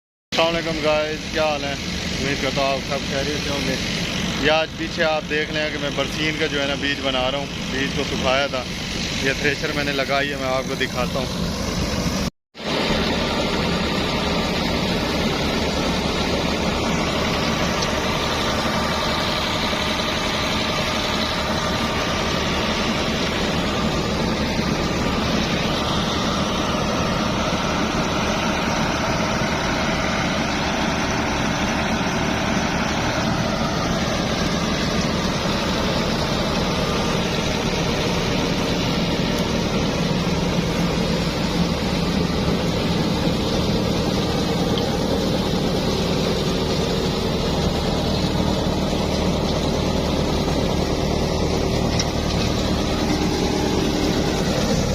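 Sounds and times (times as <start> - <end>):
thresher machine noise: 0.3 - 54.9
tractor diesel engine running: 0.3 - 54.9.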